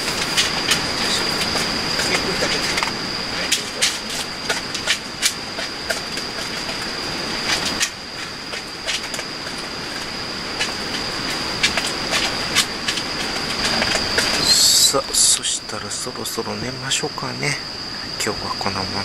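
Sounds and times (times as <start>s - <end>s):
rain hiss on tent: 0.0s - 15.6s
faint high whine: 0.0s - 19.0s.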